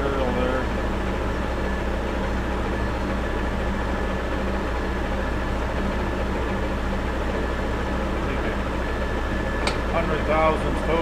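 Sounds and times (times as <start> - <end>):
metal lathe motor and gear hum: 0.0 - 11.0.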